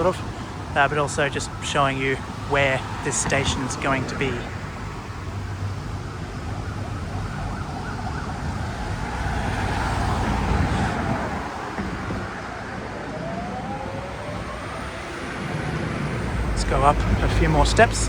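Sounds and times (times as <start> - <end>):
emergency siren wailing: 0.0 - 18.0
road traffic noise: 0.0 - 18.0.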